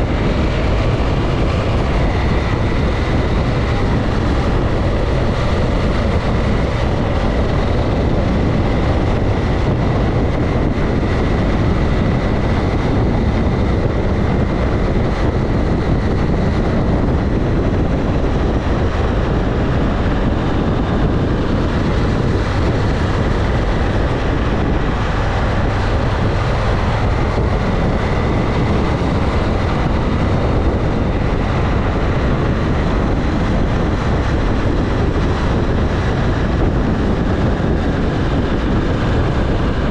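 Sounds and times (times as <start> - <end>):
motorcycle engine cruising: 0.0 - 39.9
rushing air: 0.0 - 39.9.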